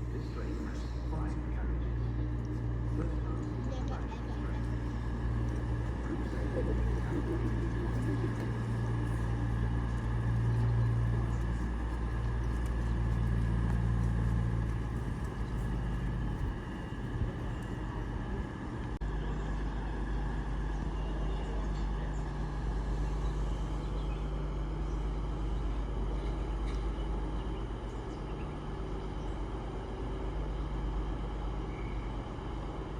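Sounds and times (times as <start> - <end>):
diesel train engines humming: 0.0 - 32.9.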